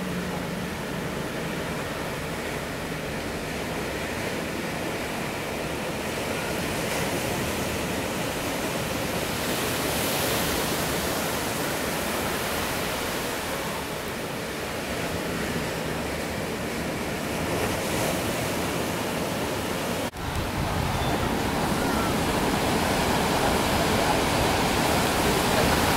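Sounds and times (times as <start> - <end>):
ocean waves breaking: 0.0 - 25.9.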